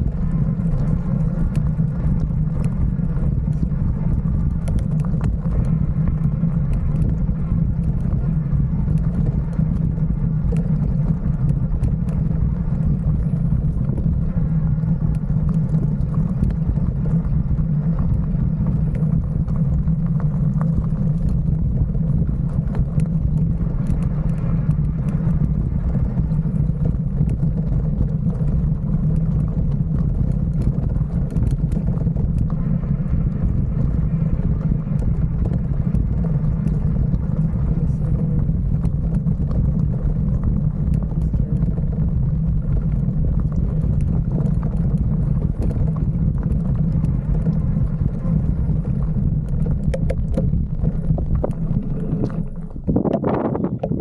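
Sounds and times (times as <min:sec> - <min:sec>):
low riding rumble: 0:00.0 - 0:54.0.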